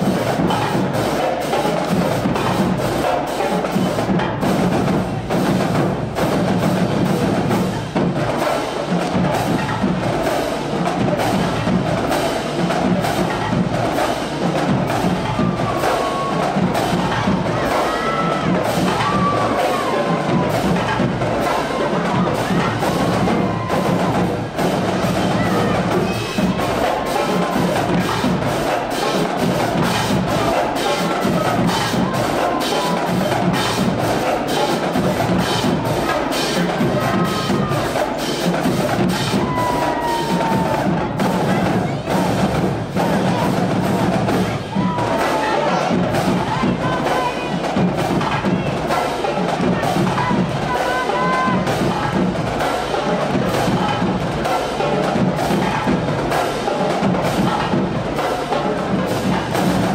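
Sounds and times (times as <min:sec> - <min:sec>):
snare and bass drumline: 0:00.0 - 0:59.9.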